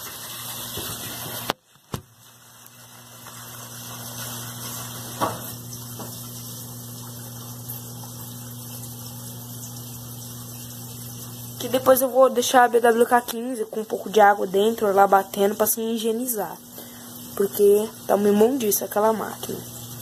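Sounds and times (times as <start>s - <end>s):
washing machine drain pump humming: 0.0s - 20.0s.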